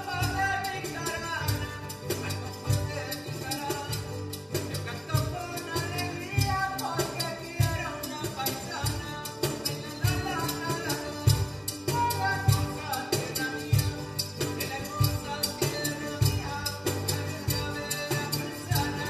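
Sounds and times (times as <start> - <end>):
cajon thumps: 0.0 - 19.0
shakers: 0.0 - 19.0
strummed guitars: 0.0 - 19.0.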